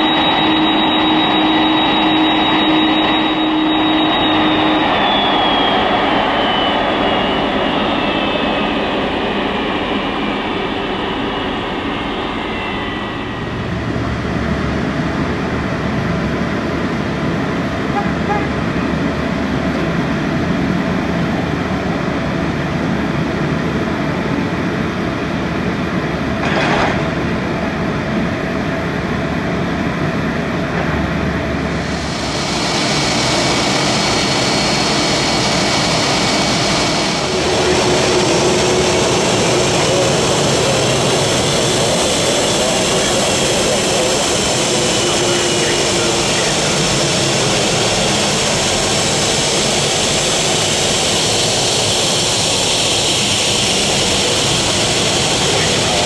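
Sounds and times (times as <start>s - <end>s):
airport ground equipment rumble: 0.0s - 56.0s
jet engines idling whine: 0.0s - 56.0s.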